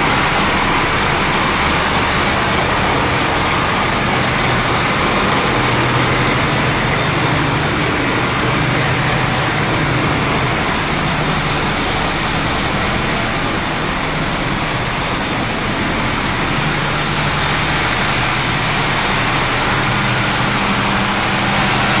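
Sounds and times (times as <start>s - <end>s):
high whine: 0.0s - 22.0s
ship engine running: 0.0s - 22.0s.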